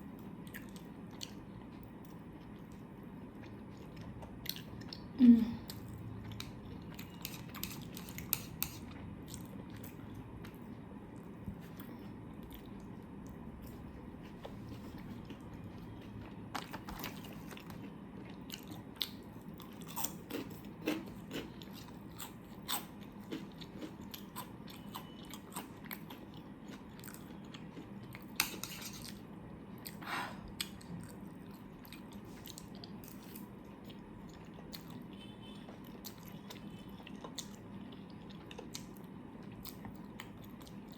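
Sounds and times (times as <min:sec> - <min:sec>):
chewing and biting food: 0:05.7 - 0:40.9.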